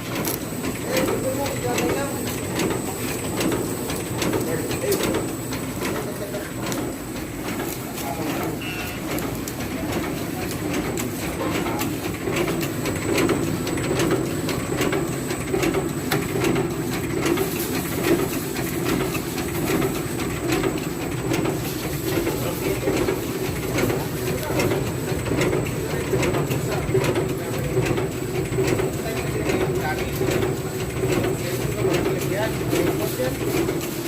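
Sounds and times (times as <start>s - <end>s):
fast irregular clicks: 0.1s - 34.0s.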